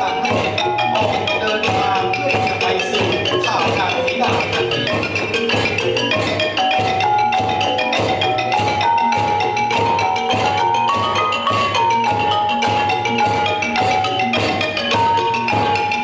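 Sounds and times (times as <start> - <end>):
mallet strokes on xylophones: 0.0 - 16.0
melody of held notes: 0.0 - 16.0
steady drum beats: 0.0 - 16.0.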